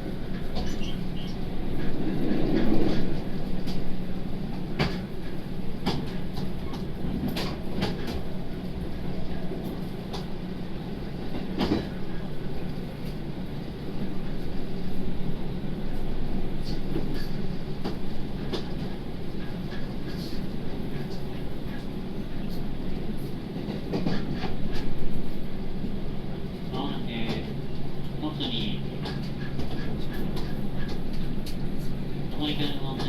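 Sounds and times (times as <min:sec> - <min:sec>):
train interior hum and rumble: 0:00.0 - 0:33.0.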